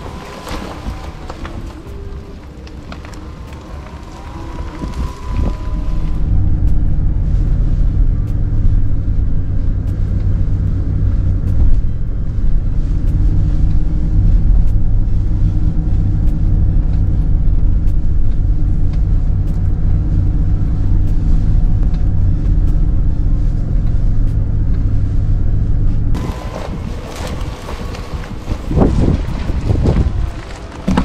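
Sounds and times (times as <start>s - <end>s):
vehicle rumbling over dirt track: 0.0s - 31.0s.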